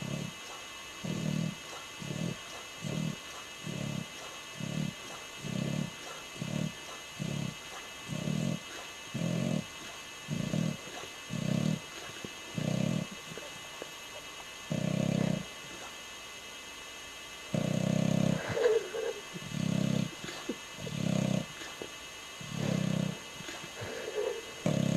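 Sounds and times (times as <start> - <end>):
dog snoring: 0.0 - 13.9, 14.7 - 15.9, 17.5 - 24.9.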